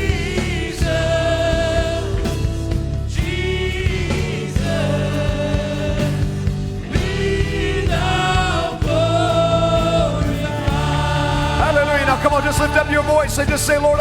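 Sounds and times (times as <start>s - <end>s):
band playing sustained chords: 0.0s - 14.0s
voices singing long notes: 0.0s - 14.0s.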